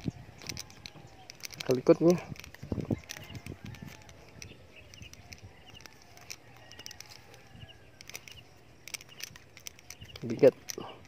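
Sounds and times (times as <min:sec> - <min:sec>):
light clicks: 0:00.0 - 0:11.0.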